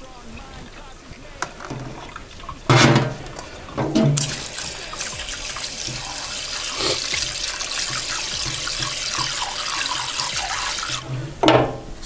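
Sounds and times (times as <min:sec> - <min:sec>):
tap water running into bowl: 0:00.0 - 0:12.0.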